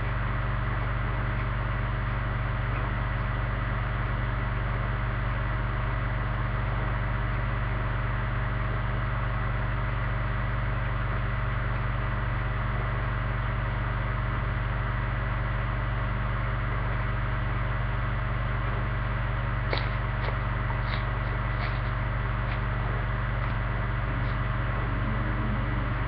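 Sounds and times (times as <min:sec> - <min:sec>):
low hum with hiss: 0:00.0 - 0:26.0.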